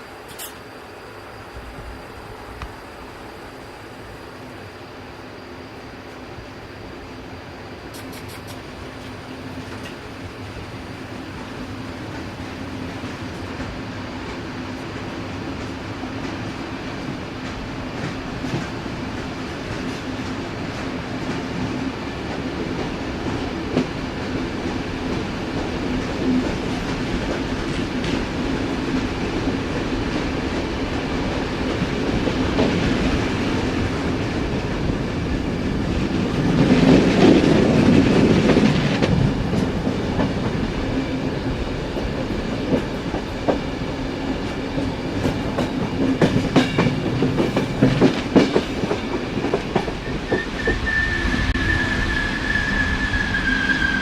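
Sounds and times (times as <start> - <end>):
train wheels rolling on rails: 0.0 - 54.0
sharp clicks of train wheels: 0.2 - 0.7, 7.7 - 51.8.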